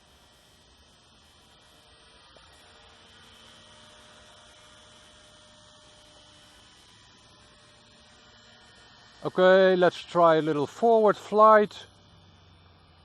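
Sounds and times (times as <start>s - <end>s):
rc helicopter motor humming: 0.0s - 13.0s.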